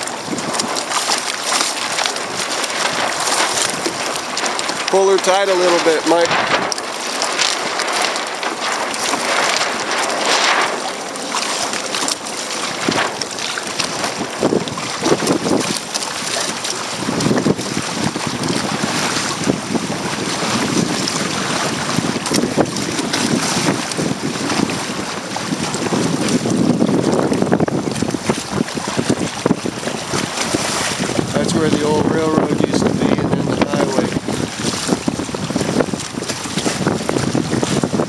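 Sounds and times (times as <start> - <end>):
water splashing against hull: 0.0 - 38.0
wind buffeting microphone: 0.0 - 38.0.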